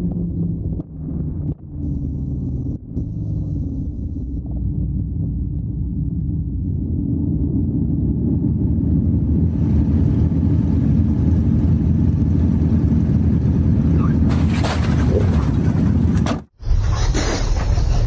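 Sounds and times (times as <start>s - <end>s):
road vehicle rumbling: 0.0s - 16.9s.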